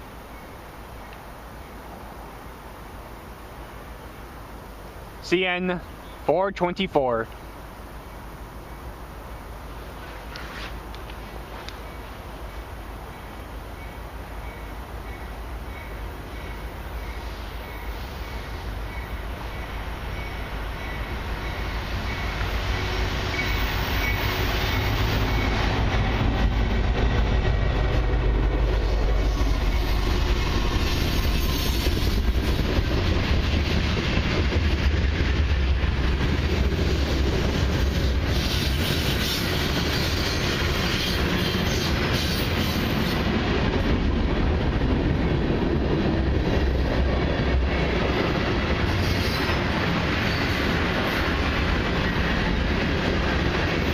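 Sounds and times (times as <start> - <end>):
freight train rumbling past: 7.3 - 53.9.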